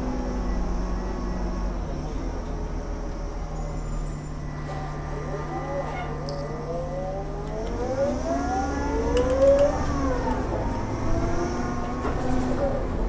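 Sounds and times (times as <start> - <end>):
bus drivetrain whine: 0.0 - 13.0
low engine rumble: 0.0 - 13.0.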